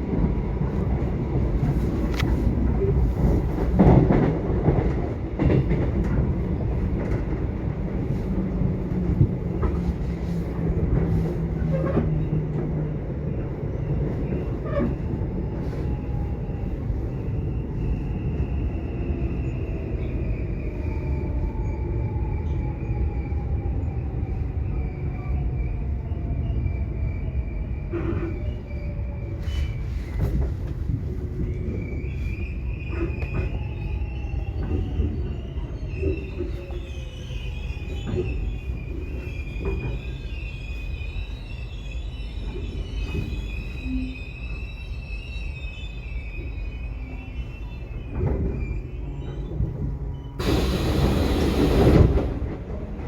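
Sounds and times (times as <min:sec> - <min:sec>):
subway train rumbling: 0:00.0 - 0:53.0.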